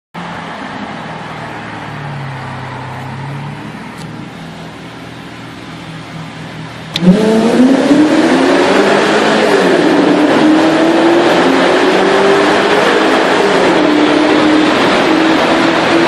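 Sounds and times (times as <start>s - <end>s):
car engine accelerating: 0.2s - 16.0s.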